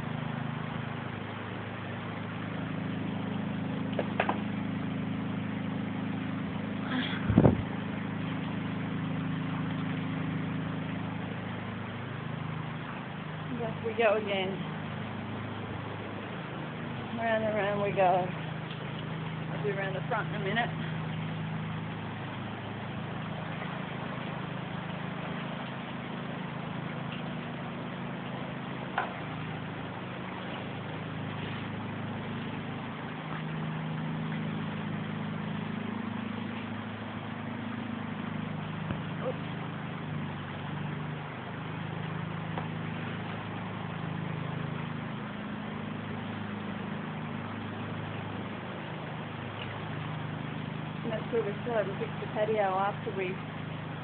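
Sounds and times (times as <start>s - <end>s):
heavy rain pouring: 0.0s - 54.0s
low mechanical hum: 0.0s - 54.0s.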